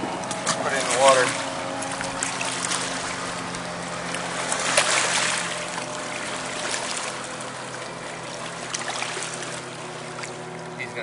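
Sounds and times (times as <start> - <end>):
steady low hum: 0.0 - 11.0
water splashing and trickling: 0.0 - 11.0.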